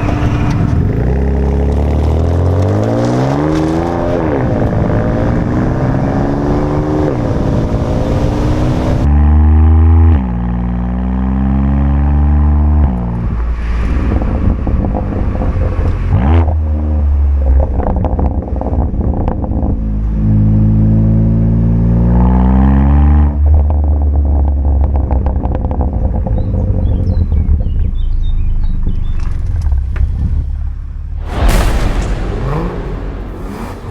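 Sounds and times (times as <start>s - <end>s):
car engine accelerating hard: 0.0s - 29.2s.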